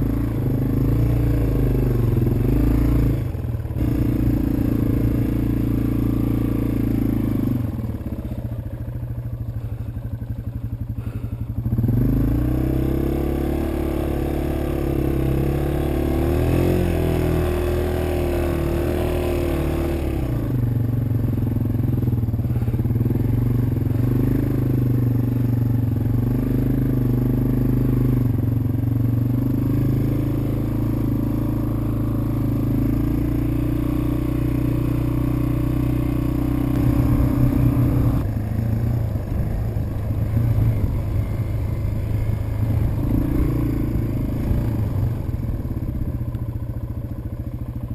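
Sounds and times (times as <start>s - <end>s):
off-road engine running: 0.0s - 47.9s.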